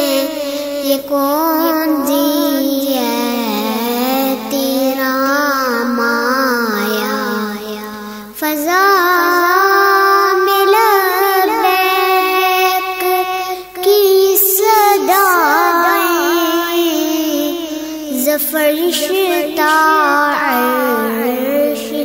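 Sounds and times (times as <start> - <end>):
girl singing devotional song: 0.0 - 22.0.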